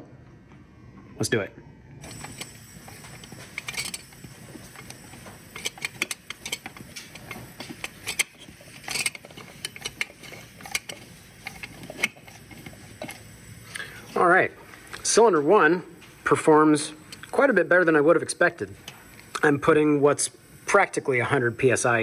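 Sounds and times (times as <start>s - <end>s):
faint steady air hiss: 2.0s - 22.0s.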